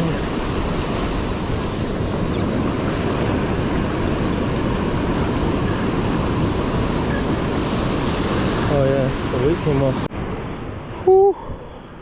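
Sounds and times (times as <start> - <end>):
ocean surf rushing: 0.0 - 12.0
wind noise on microphone: 0.0 - 12.0.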